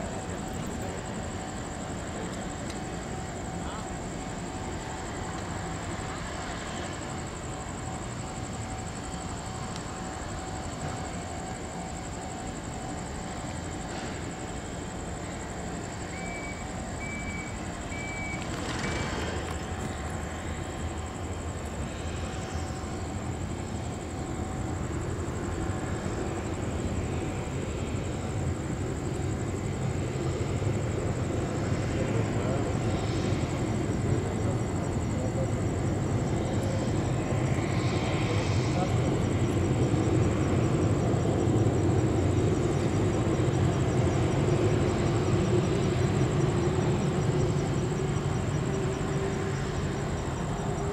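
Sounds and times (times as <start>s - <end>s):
jet engines idling: 0.0s - 50.9s.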